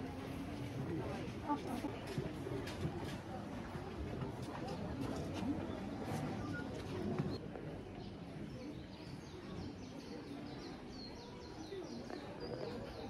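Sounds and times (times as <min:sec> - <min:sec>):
low outdoor murmur: 0:00.0 - 0:13.0.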